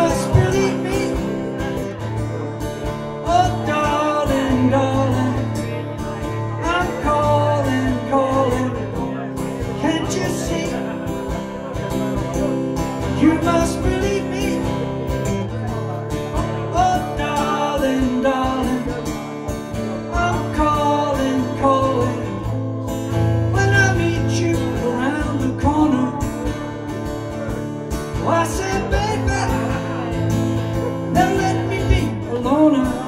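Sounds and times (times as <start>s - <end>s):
acoustic guitar chords: 0.0s - 33.0s
guitar melody line: 0.0s - 33.0s.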